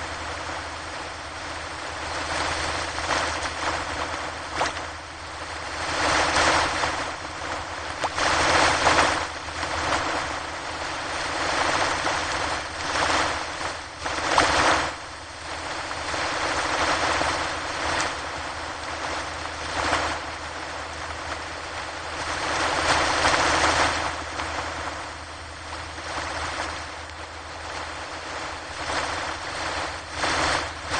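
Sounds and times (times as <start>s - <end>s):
ocean waves breaking on shore: 0.0s - 30.9s.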